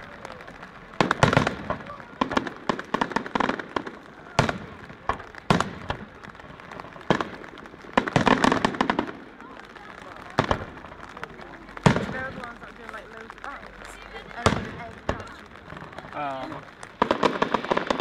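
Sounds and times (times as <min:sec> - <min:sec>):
firework bangs: 0:00.0 - 0:18.0
fireworks crackling: 0:00.0 - 0:18.0.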